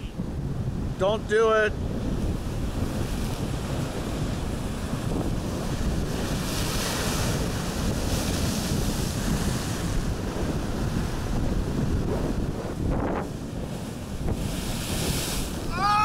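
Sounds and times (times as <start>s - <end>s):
wind buffeting microphone: 0.0s - 16.0s
surf breaking on rocks: 2.0s - 16.0s.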